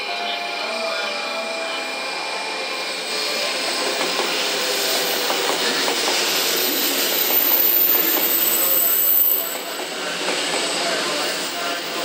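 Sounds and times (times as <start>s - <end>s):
train rushing past: 0.0s - 12.0s.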